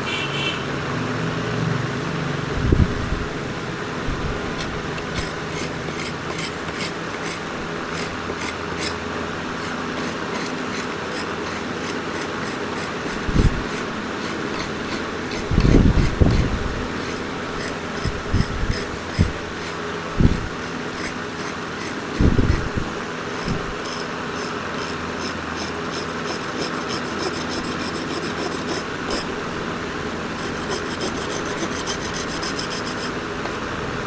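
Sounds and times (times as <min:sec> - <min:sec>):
mechanical whir: 0:01.6 - 0:34.0.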